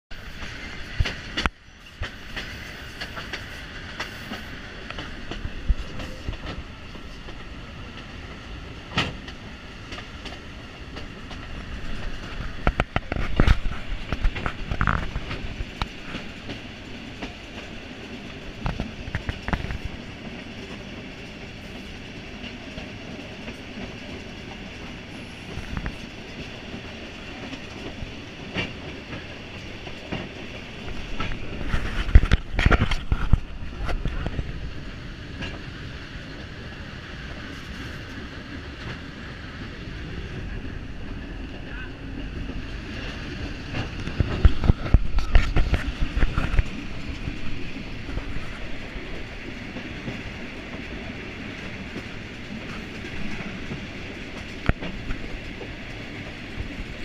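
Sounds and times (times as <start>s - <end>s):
train rumbling along track: 0.1s - 57.0s.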